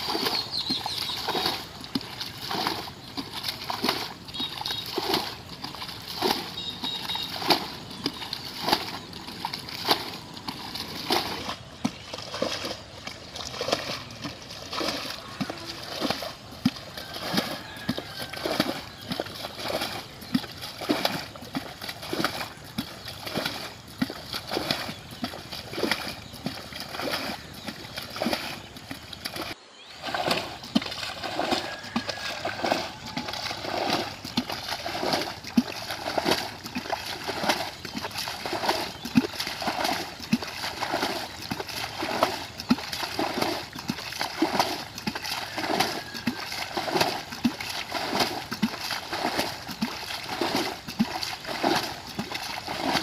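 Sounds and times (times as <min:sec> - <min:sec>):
bucket pouring water splashes: 0:00.0 - 0:53.0
muddy water sloshing: 0:00.0 - 0:53.0.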